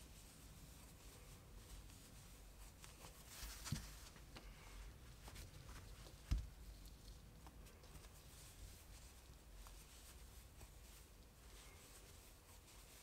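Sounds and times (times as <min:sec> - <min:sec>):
crochet hook rustling yarn: 0:00.0 - 0:13.0.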